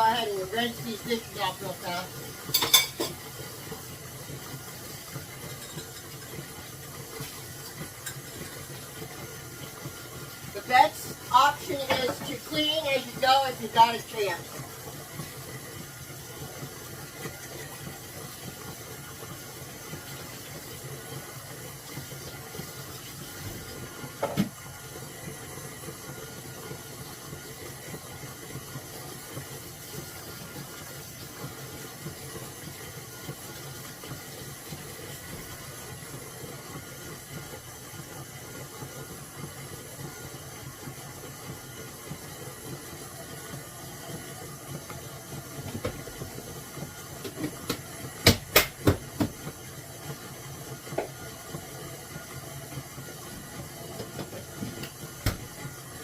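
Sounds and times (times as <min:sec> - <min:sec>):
faucet running into sink: 0:00.0 - 0:56.0.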